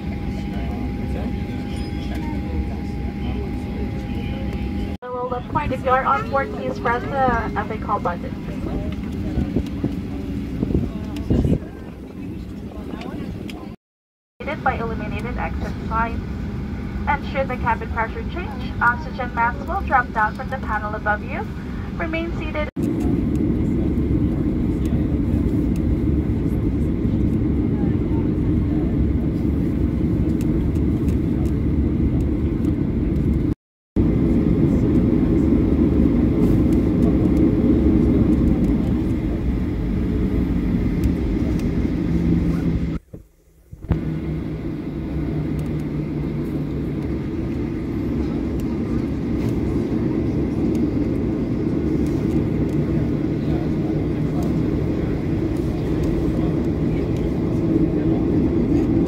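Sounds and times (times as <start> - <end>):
aircraft cabin rumble: 0.0 - 13.8, 14.4 - 59.0.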